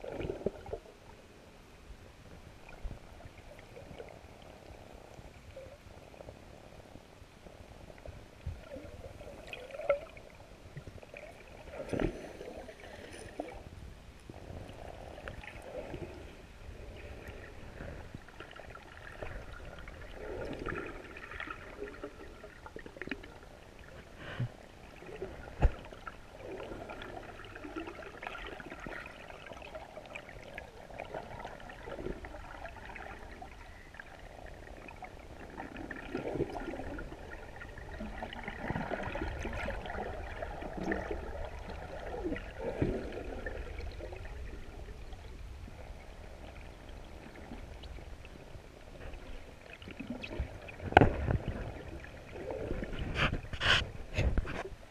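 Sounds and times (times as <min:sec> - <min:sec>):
underwater sloshing and gurgling: 0:00.0 - 0:54.9.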